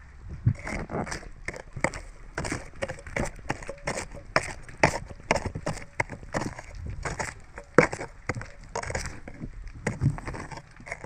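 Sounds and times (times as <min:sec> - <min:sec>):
sharp knocks and clicks: 0:01.1 - 0:11.0.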